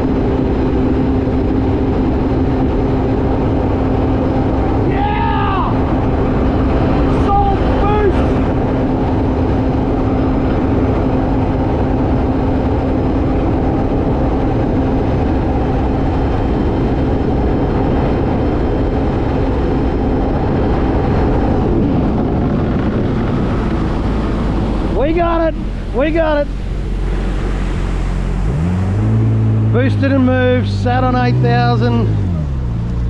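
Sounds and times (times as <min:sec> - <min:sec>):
jet ski engine running flat out: 0:00.0 - 0:33.0.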